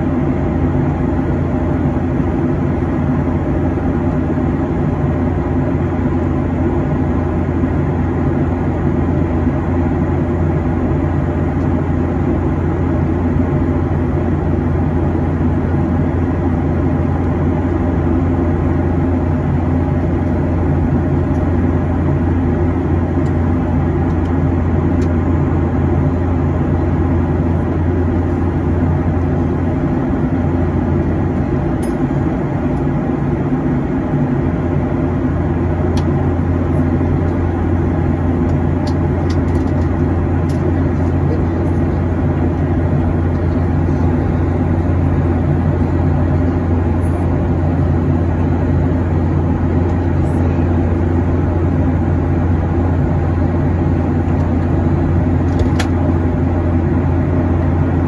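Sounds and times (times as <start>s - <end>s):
jet engine hum: 0.0s - 58.0s
rush of air along fuselage: 0.0s - 58.0s.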